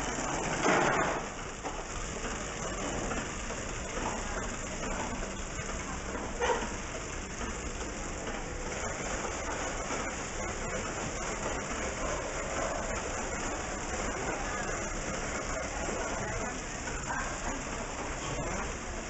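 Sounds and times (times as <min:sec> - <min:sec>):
factory floor noise: 0:00.0 - 0:19.0
wrapping machine hissing: 0:00.0 - 0:19.0.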